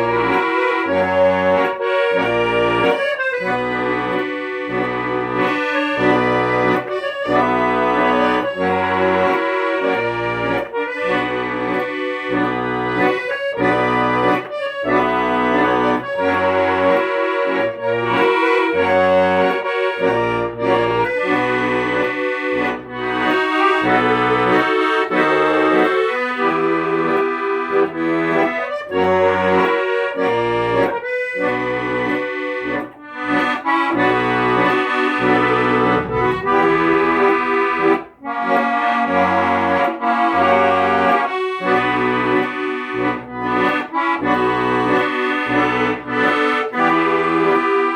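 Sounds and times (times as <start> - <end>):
accordion music: 0.0 - 47.9.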